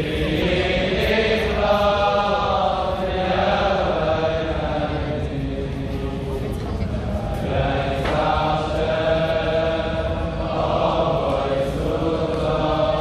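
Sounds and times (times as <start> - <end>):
men singing together: 0.0 - 5.8, 7.3 - 13.0.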